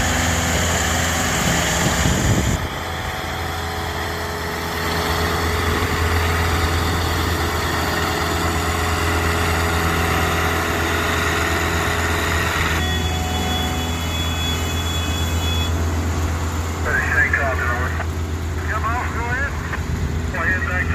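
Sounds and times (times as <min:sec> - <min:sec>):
broad rushing noise: 0:00.0 - 0:20.9
engine low drone: 0:00.0 - 0:20.9.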